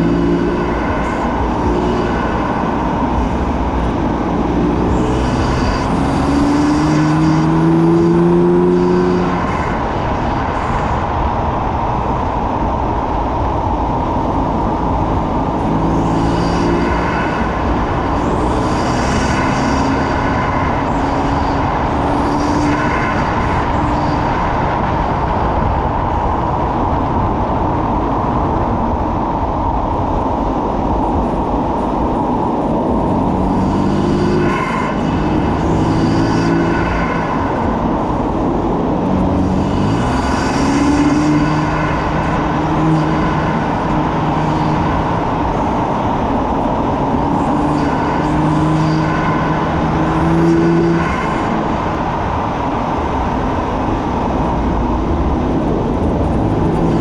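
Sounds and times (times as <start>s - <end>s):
car engine accelerating: 0.0s - 57.0s
tyre and wind noise: 0.0s - 57.0s.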